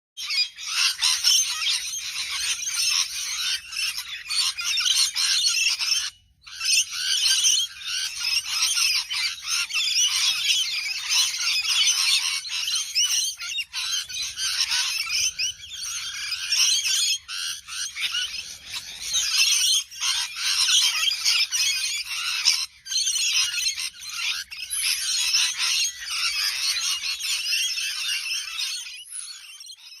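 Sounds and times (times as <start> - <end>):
parrots chattering and squawking: 0.2 - 29.9.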